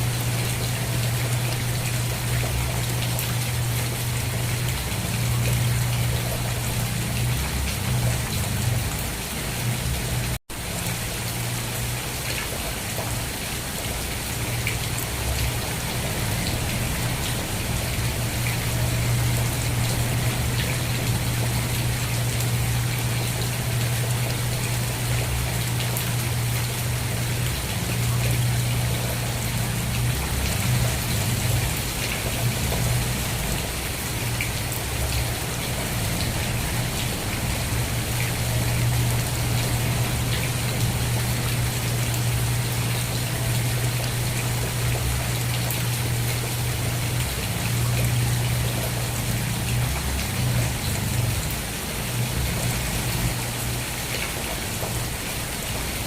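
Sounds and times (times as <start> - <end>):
constant low hum: 0.0 - 55.3
rain patter: 0.0 - 56.0.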